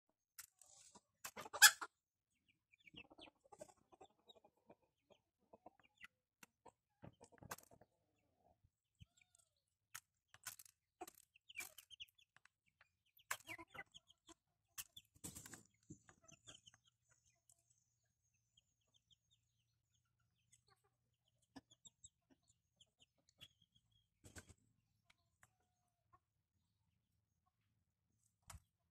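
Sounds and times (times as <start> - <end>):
chickens clucking: 0.6 - 9.4, 10.4 - 26.3.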